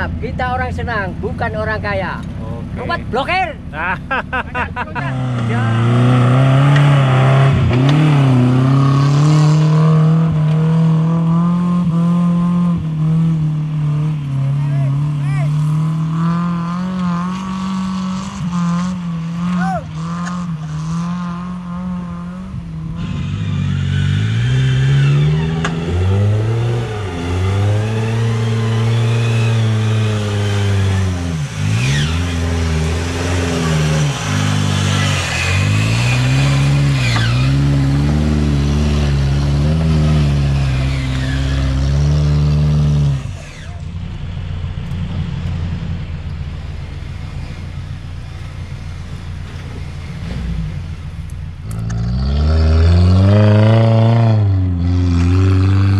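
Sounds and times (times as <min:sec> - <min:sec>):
off-road vehicle engine revving: 0:00.0 - 0:55.9.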